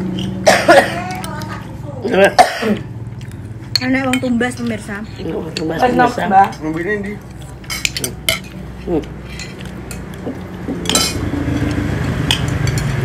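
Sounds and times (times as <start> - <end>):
spoons clinking on plates: 0.0 - 1.6, 3.2 - 6.8, 7.4 - 13.0.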